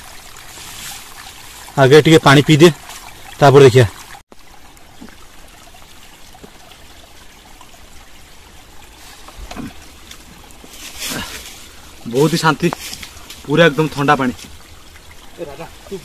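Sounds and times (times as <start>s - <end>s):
water trickling from rock: 0.0s - 16.0s.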